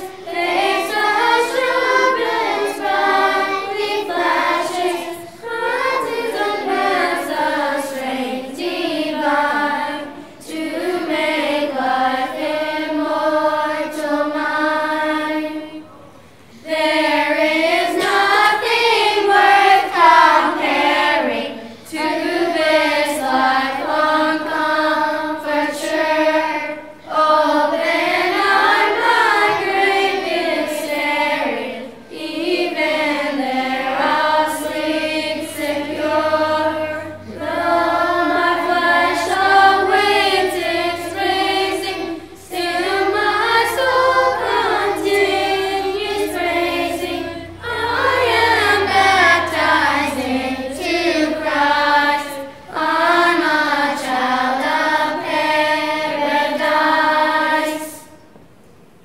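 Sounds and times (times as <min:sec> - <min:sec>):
children's choir singing a hymn: 0:00.0 - 0:59.0.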